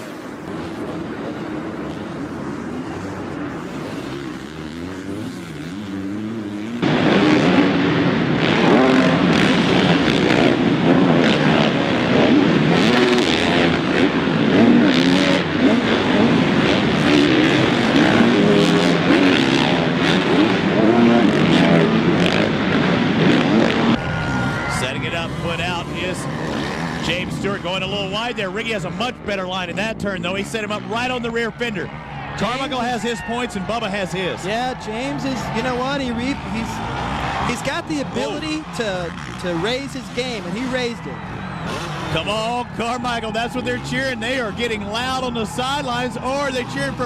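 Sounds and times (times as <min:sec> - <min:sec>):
motocross bike engines revving: 0:00.0 - 0:47.0.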